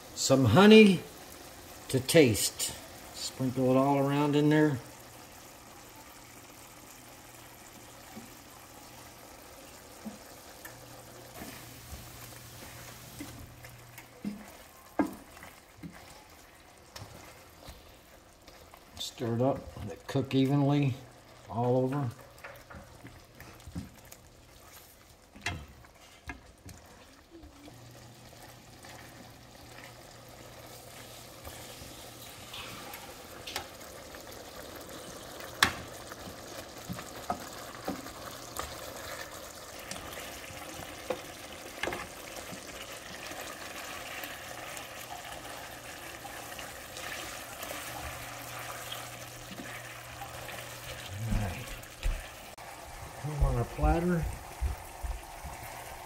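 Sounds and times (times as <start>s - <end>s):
sauce sizzling and bubbling: 0.0s - 56.0s.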